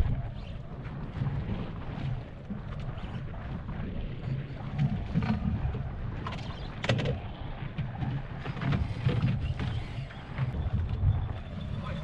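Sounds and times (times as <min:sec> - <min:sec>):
water slapping boat hull: 0:00.0 - 0:12.0
wind buffeting microphone: 0:00.0 - 0:12.0.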